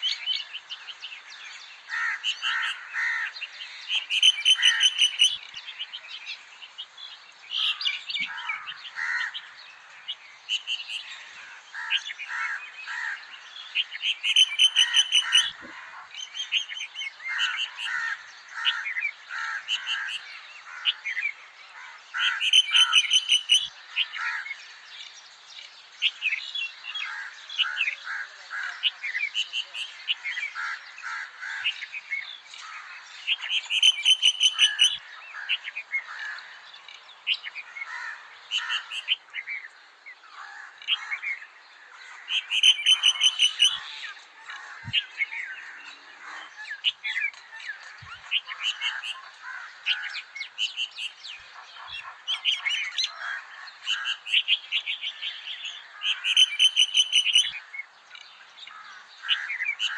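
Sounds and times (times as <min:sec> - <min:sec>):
birds chirping: 0:00.0 - 0:59.9
loud bird trill: 0:01.8 - 0:05.6, 0:10.4 - 0:24.8, 0:26.0 - 0:39.8, 0:40.4 - 0:59.9.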